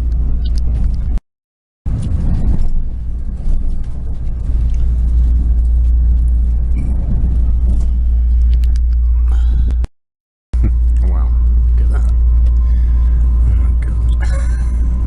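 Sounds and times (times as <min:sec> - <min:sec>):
train rumble inside carriage: 0:00.0 - 0:01.2, 0:01.9 - 0:09.9, 0:10.6 - 0:15.0.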